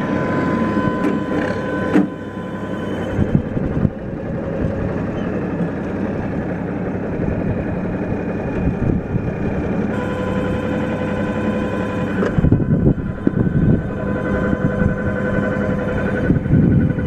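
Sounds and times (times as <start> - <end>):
round baler working: 0.0 - 17.0
tractor engine running: 0.0 - 17.0.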